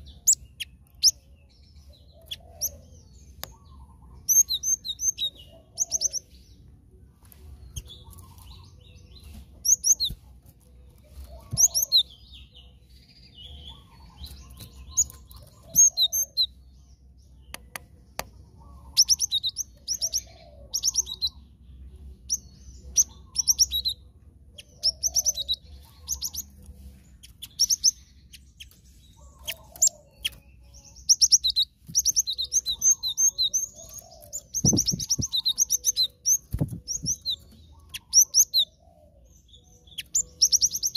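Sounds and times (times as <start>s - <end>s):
bird high chirps: 0.0s - 40.9s.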